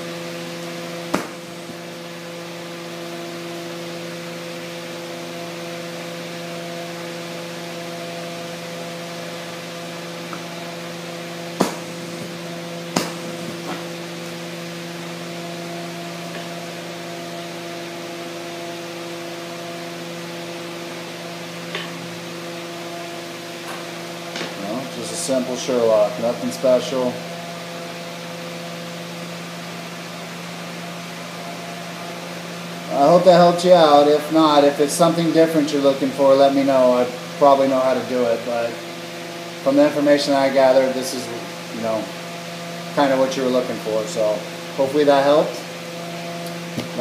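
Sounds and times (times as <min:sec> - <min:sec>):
low equipment hum: 0:00.0 - 0:47.0.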